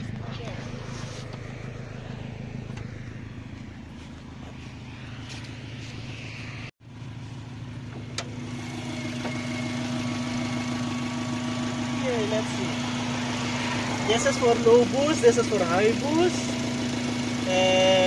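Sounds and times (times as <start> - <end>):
engine whine: 0.0 - 18.0
turbocharged engine idling: 0.0 - 18.0.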